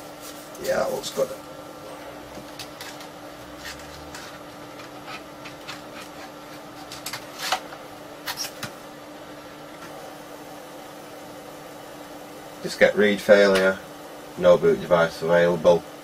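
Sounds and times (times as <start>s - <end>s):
computer fan hum: 0.0s - 16.0s.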